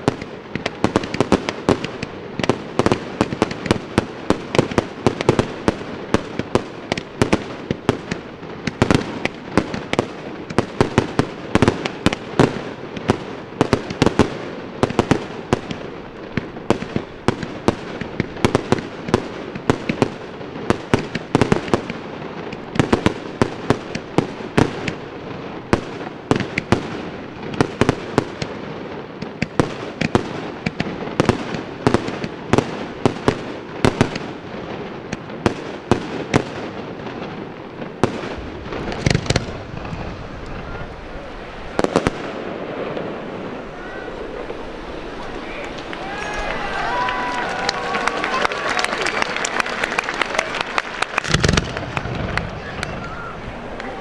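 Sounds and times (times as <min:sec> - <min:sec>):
fireworks bangs and pops: 0:00.0 - 0:54.0.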